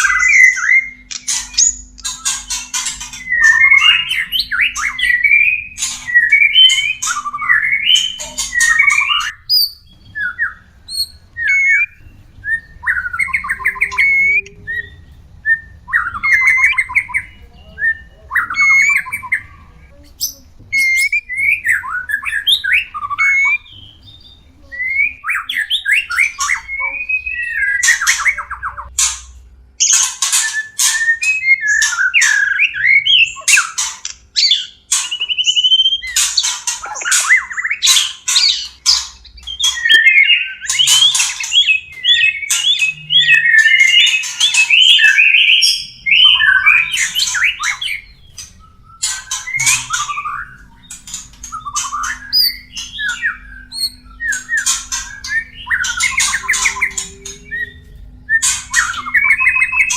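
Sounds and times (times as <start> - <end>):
harsh bird chattering: 0.0 - 15.1, 15.7 - 59.9
bird whistled song: 0.0 - 29.0, 29.8 - 59.9.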